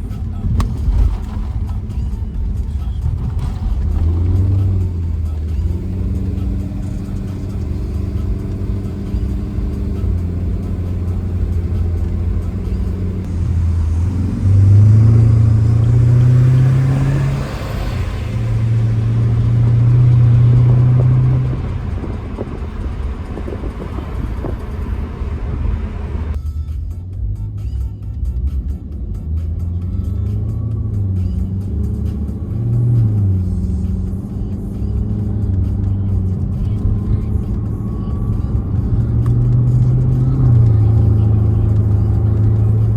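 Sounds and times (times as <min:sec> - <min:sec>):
car engine and exhaust revving: 0:00.0 - 0:42.9.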